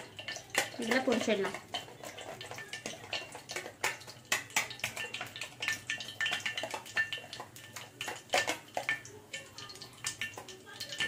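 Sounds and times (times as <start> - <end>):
utensil beating egg in plastic bowl: 0.0 - 11.0.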